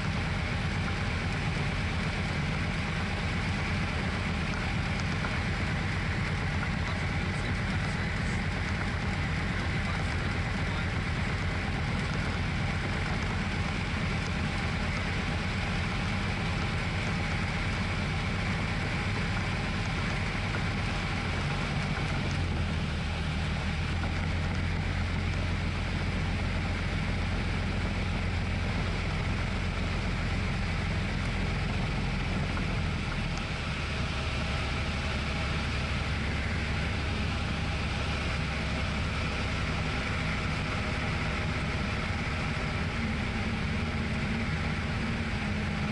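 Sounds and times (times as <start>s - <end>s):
aircraft engine and propeller drone: 0.0s - 45.9s.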